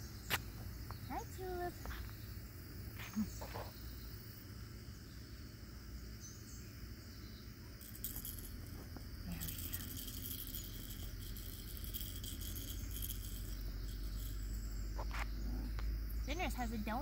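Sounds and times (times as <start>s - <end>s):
insects hissing: 0.0s - 17.0s.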